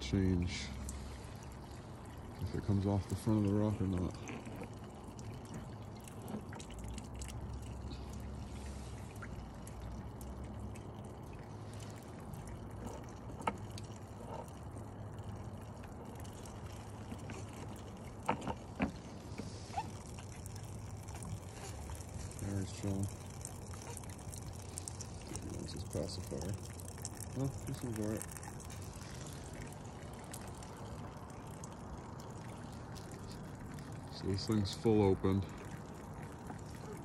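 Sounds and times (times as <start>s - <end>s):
fountain water trickling: 0.0s - 37.0s.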